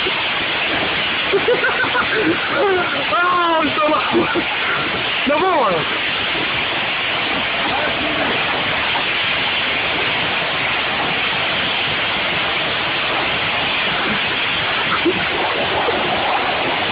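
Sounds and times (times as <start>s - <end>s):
pressure washer spray hissing: 0.0s - 16.9s.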